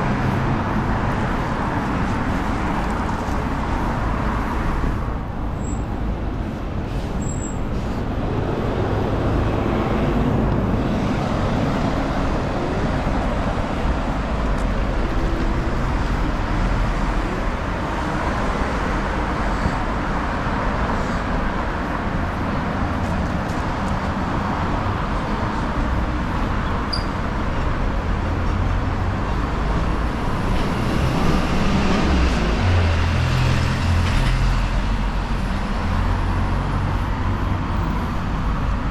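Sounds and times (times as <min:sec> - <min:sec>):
cars and buses passing: 0:00.0 - 0:38.9.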